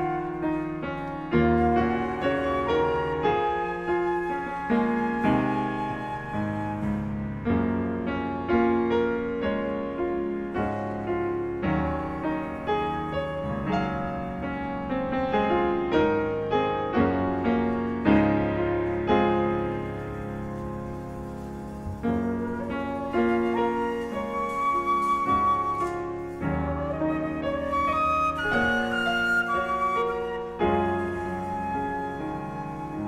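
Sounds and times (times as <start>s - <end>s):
grand piano playing slowly: 0.0s - 33.0s.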